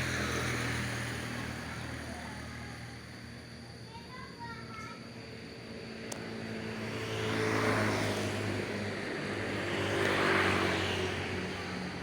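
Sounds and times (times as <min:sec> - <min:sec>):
engine drone: 0:00.0 - 0:04.0, 0:04.7 - 0:12.0
vehicles passing: 0:00.0 - 0:04.2, 0:05.0 - 0:12.0.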